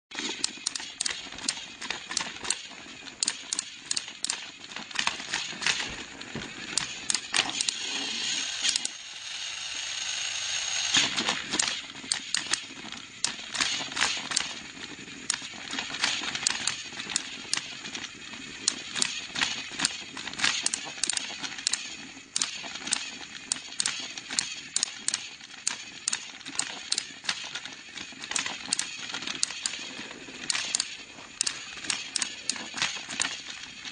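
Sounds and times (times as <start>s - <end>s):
toy trains clattering on track: 0.1s - 33.9s.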